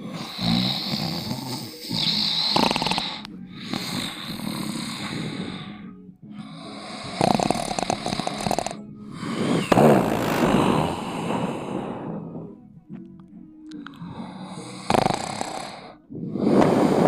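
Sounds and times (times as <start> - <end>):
person snoring loudly: 0.0 - 12.7, 13.7 - 17.0.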